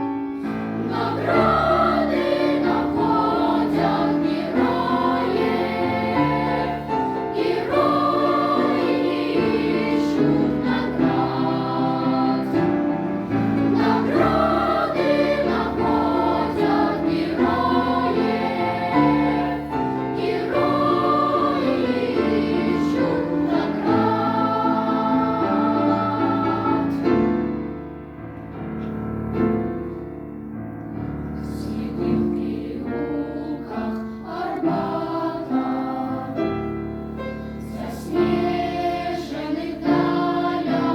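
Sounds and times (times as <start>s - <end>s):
choir singing: 0.0s - 28.0s, 31.3s - 40.9s.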